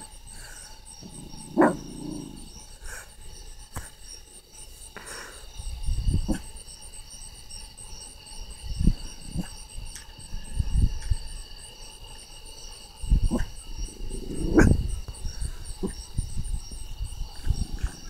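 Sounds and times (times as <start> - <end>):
insects trilling and chirping: 0.0 - 18.0.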